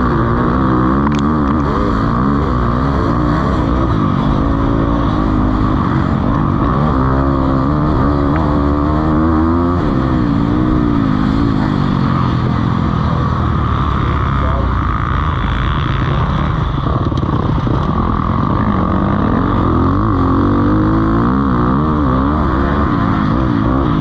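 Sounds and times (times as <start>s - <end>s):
motocross bikes revving: 0.0s - 24.0s.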